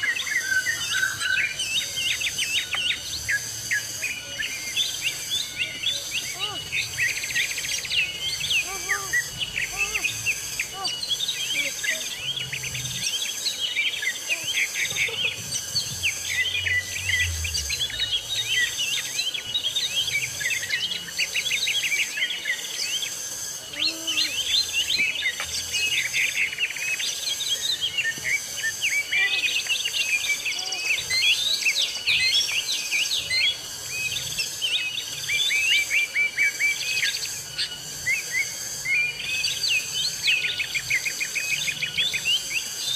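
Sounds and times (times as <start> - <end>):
forest birds chirping: 0.0 - 42.9
pulsing high insect buzz: 0.0 - 42.9.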